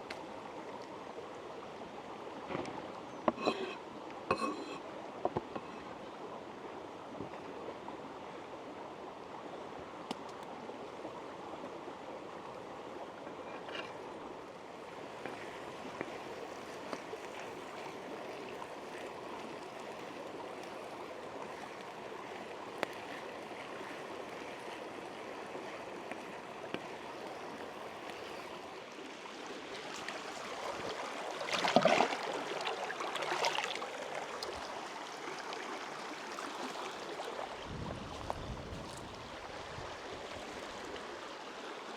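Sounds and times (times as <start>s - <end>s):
running water rushing: 4.9s - 41.9s.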